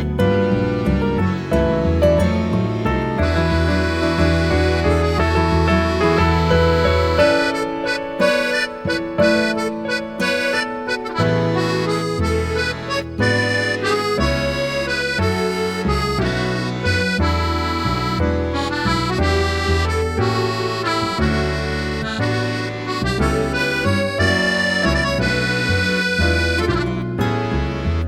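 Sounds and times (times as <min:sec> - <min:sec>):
bouncy accordion tune: 0:00.0 - 0:28.0.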